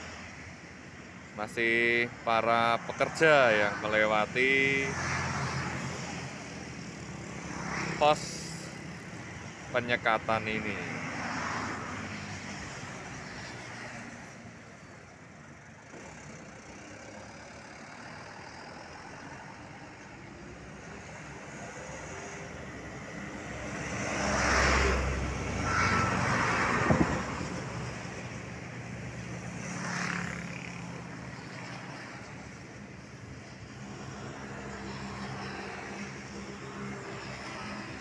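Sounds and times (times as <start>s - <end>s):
trucks driving past: 0.0s - 38.0s.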